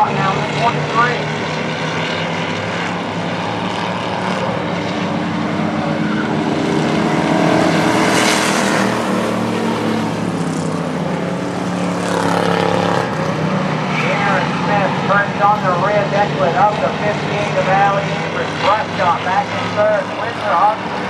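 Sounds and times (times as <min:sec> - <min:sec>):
stock car engines racing: 0:00.0 - 0:21.0.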